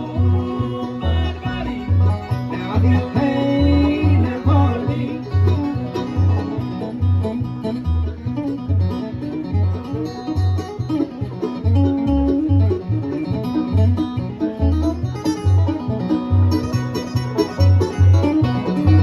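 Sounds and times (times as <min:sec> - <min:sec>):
acoustic string band playing: 0:00.0 - 0:19.0.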